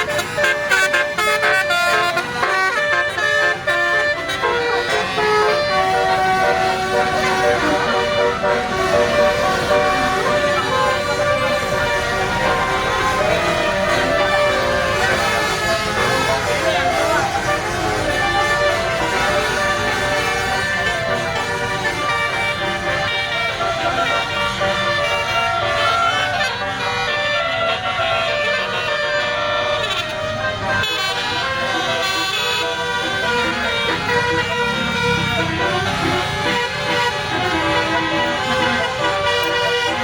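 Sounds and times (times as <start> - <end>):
multi-tone bus air horn tune: 0.0 - 40.0.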